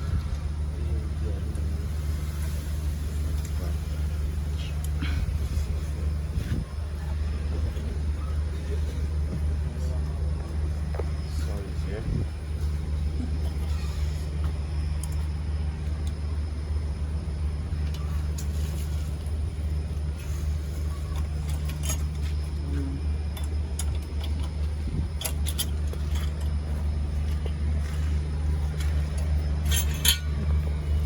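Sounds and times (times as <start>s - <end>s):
low engine drone: 0.0s - 31.0s.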